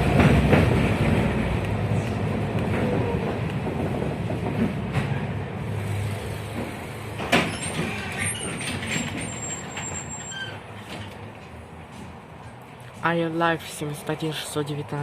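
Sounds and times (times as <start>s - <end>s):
tram wheels rumbling: 0.0s - 15.0s.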